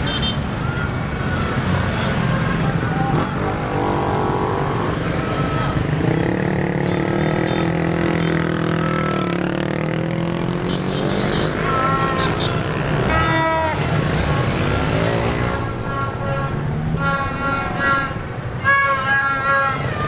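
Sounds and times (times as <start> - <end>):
motorbike engines in traffic: 0.0 - 20.0
horn honks: 1.9 - 20.0.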